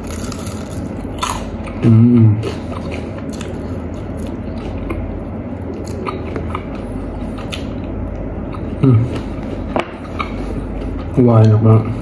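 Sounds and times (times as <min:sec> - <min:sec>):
crunchy chewing: 0:00.0 - 0:11.6
low hum: 0:00.0 - 0:12.0.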